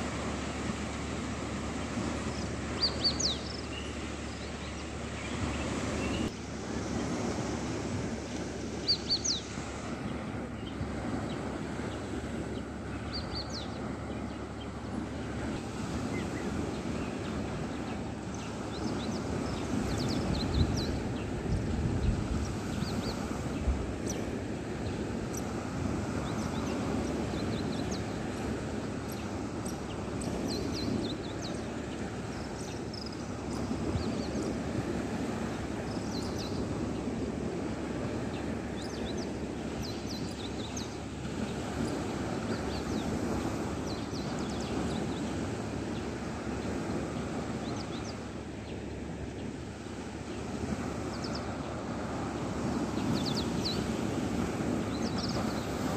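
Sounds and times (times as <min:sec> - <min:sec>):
birds chirping: 0:00.4 - 0:07.4, 0:08.7 - 0:37.2, 0:38.0 - 0:55.9.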